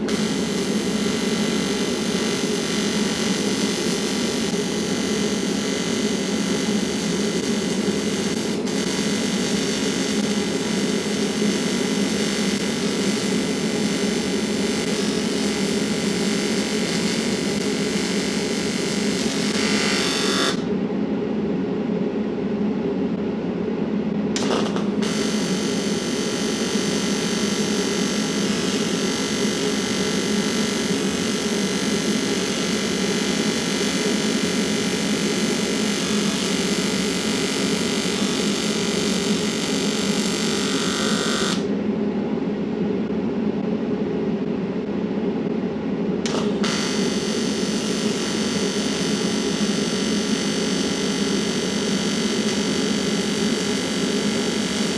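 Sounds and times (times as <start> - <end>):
electric welding arc sizzling: 0.0 - 20.6, 24.4 - 41.7, 46.3 - 54.9.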